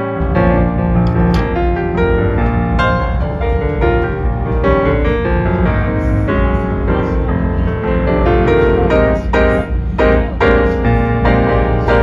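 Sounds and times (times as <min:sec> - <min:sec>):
piano background music: 0:00.0 - 0:12.0.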